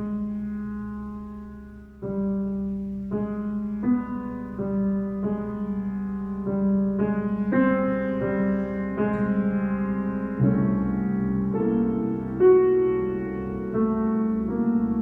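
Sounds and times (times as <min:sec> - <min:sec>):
slow soft piano chords: 0:00.0 - 0:15.0.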